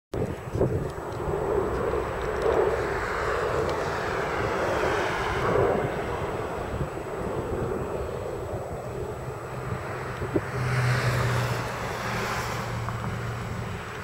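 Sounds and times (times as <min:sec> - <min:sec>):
jet engines hum and hiss: 0:00.2 - 0:14.0.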